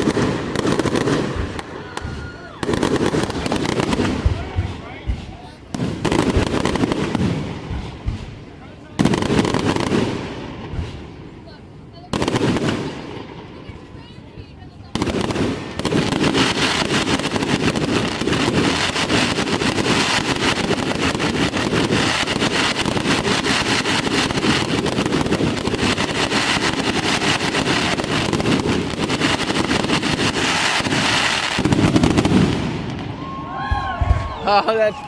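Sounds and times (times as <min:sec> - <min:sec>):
fireworks crackling: 0:00.0 - 0:35.0.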